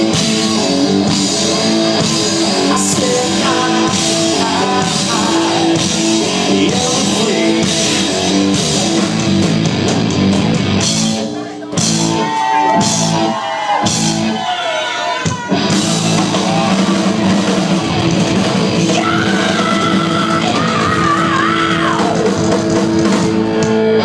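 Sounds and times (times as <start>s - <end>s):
electric guitar: 0.0s - 14.3s, 15.2s - 24.0s
drum kit beat: 0.0s - 14.4s, 15.2s - 24.0s
rock band playing: 0.0s - 24.0s.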